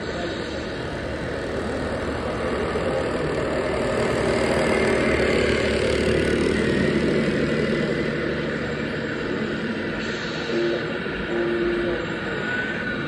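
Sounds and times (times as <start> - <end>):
toy truck diesel engine sound: 0.6 - 12.1.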